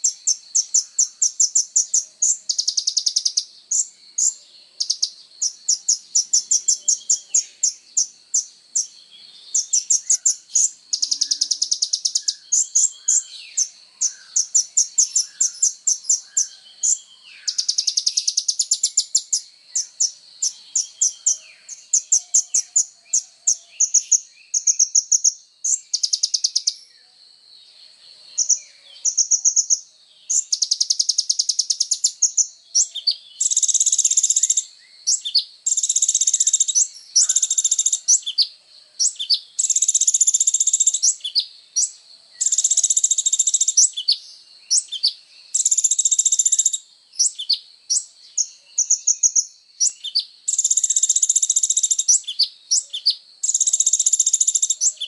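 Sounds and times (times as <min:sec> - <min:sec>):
sunbird singing high trills: 0:00.0 - 0:55.0.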